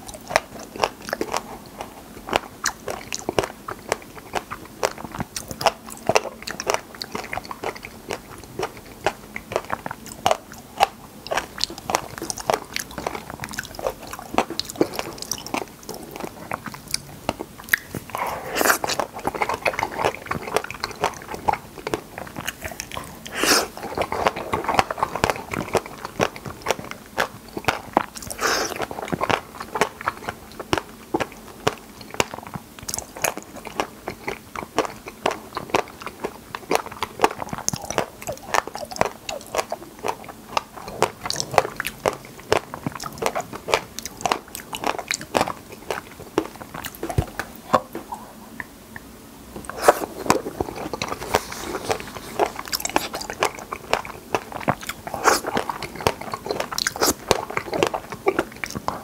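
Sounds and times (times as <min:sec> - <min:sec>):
mouth chewing berries: 0:00.0 - 0:59.0.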